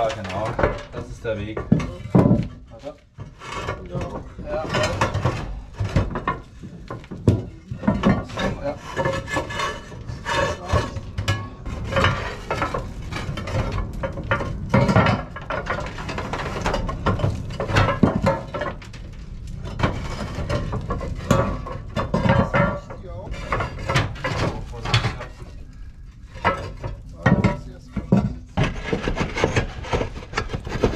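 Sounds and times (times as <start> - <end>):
roof tiles scraping and clattering: 0.0 - 30.9.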